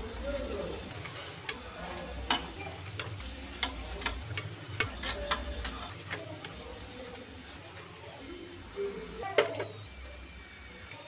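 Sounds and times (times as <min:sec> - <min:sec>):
flatbread sizzling: 0:00.0 - 0:11.0.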